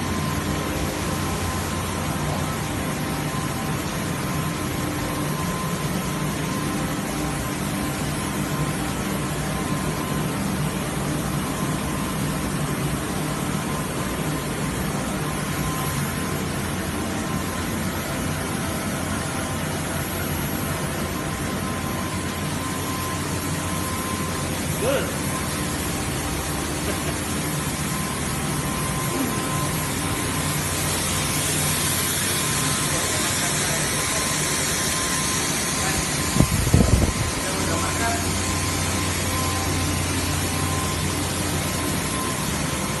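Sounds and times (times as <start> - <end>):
machine drone and hiss: 0.0 - 43.0
thin machine whine: 0.0 - 43.0.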